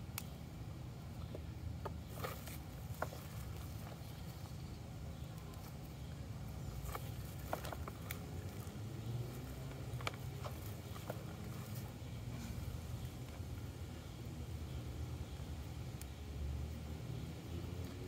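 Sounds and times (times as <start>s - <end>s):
soil and roots crumbling: 1.0s - 18.0s.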